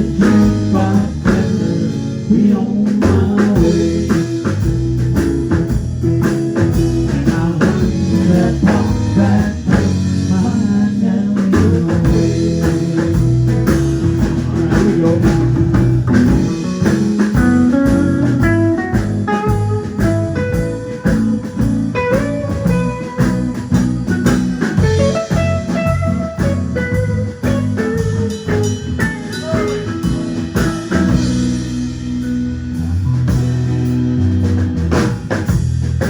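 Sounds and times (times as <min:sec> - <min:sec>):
blues band playing: 0:00.0 - 0:36.0.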